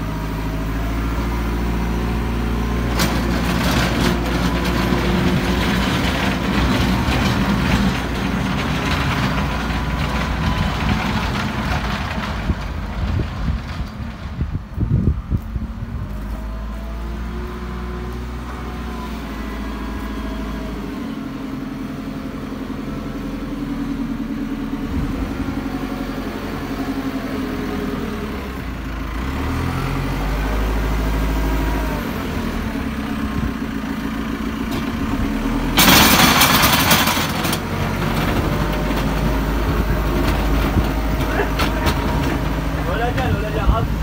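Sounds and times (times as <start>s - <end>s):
diesel engine revving: 0.0s - 44.0s.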